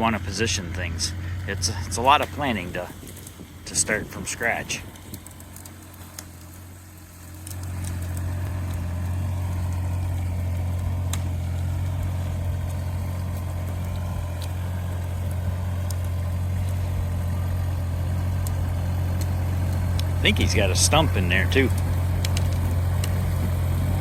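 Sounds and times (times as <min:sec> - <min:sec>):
excavator diesel engine humming: 0:00.0 - 0:24.0
faint sharp cracks: 0:01.1 - 0:24.0.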